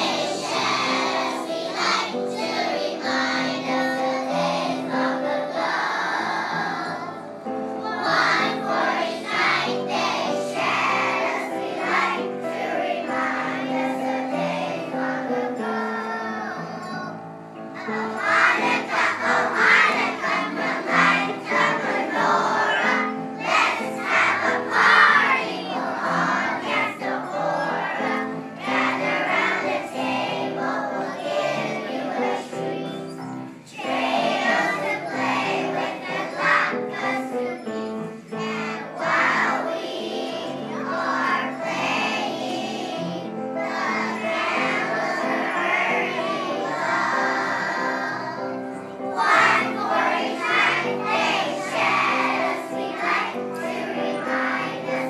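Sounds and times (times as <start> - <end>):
children singing: 0.0 - 55.0
musical accompaniment: 0.0 - 55.0.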